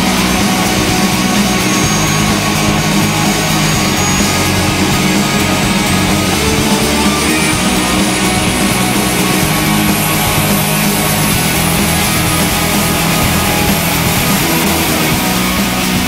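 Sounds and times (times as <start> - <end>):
heavy guitar rock music: 0.0 - 16.0.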